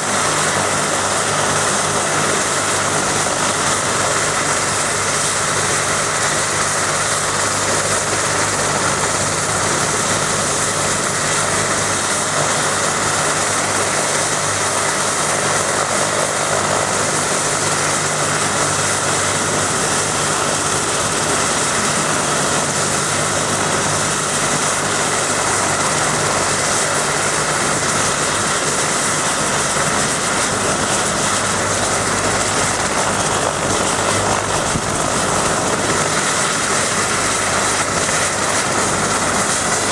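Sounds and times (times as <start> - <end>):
helicopter turbine whine and rotor hum: 0.0 - 39.9.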